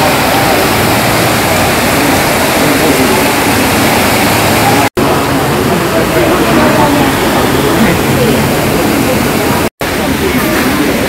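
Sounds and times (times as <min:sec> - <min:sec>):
river water rushing over boulders: 0:00.0 - 0:11.0.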